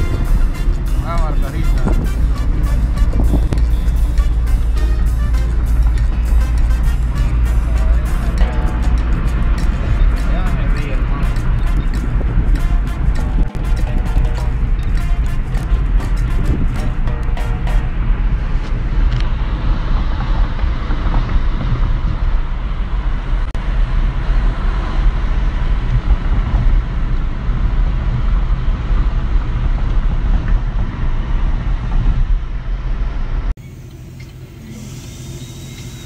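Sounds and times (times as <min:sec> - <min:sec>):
road and wind noise in car: 0:00.0 - 0:36.0.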